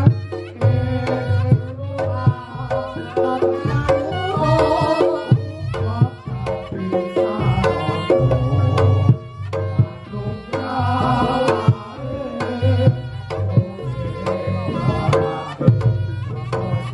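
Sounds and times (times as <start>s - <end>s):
percussion ensemble playing: 0.0s - 16.9s
pitched melody line: 0.0s - 16.9s.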